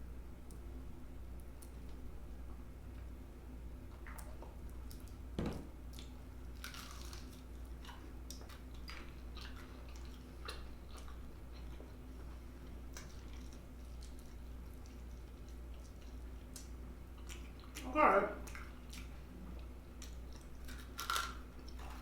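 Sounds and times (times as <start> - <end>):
steady low hum: 0.0 - 22.0
chewing crispy fried chicken: 3.8 - 22.0.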